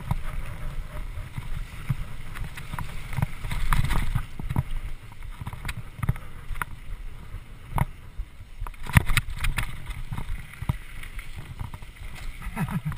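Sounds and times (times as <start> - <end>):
bike knocking and rattling: 0.0 - 12.9
tyres on dirt: 0.0 - 12.9
wind on microphone: 0.0 - 12.9.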